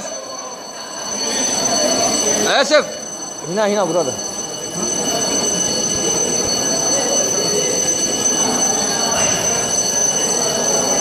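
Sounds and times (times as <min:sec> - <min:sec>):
fire alarm high-pitched tone: 0:00.0 - 0:11.0
people's voices: 0:00.0 - 0:11.0.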